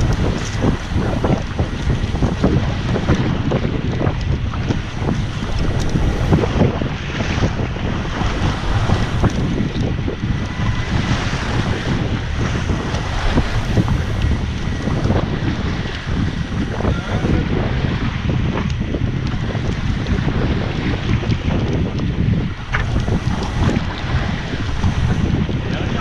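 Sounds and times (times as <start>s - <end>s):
waves washing: 0.0s - 26.0s
wind buffeting microphone: 0.0s - 26.0s.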